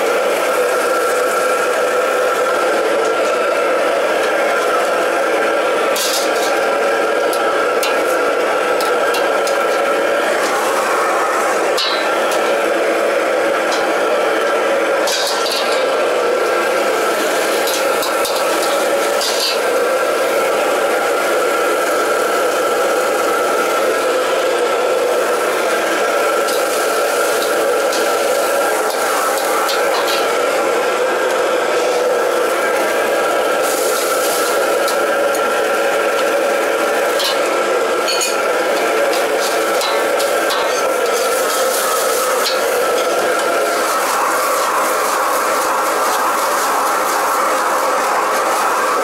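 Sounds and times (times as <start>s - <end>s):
gas wok burners roaring: 0.0s - 49.0s
kitchen extraction hum: 0.0s - 49.0s.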